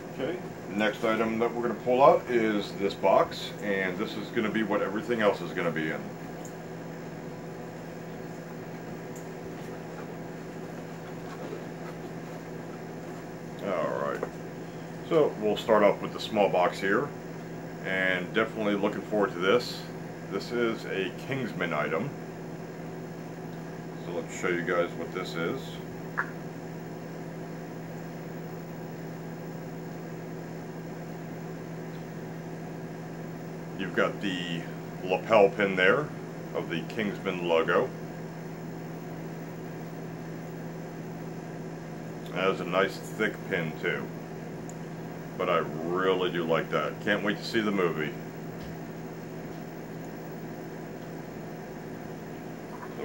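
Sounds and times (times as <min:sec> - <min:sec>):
low hum: 0:00.0 - 0:53.0.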